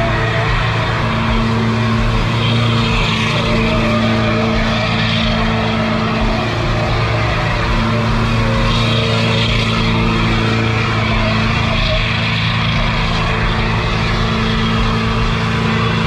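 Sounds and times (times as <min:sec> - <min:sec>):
spinning tyres hissing: 0:00.0 - 0:16.0
truck engine at high revs: 0:00.0 - 0:16.0.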